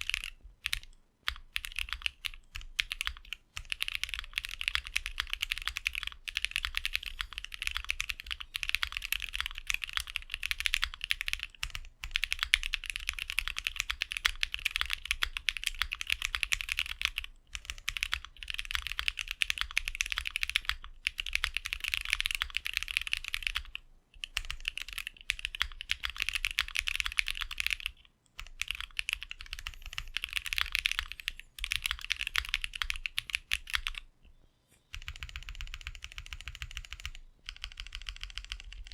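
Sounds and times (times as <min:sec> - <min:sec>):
fast typing on mechanical keyboard: 0:00.0 - 0:34.0, 0:34.9 - 0:38.9.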